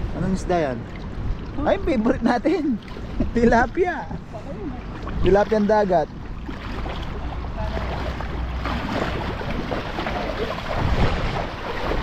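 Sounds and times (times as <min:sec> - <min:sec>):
wind rumbling on microphone: 0:00.0 - 0:12.0
boots sloshing through water: 0:00.5 - 0:12.0.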